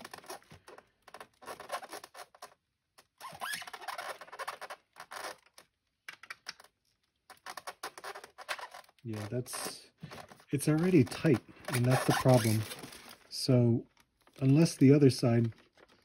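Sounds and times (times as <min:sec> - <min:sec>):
hands shifting plastic: 0:00.0 - 0:16.0.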